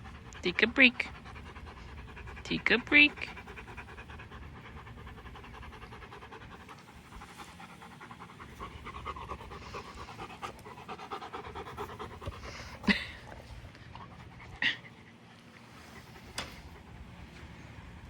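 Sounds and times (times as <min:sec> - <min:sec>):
dog panting fast: 0:00.0 - 0:17.9.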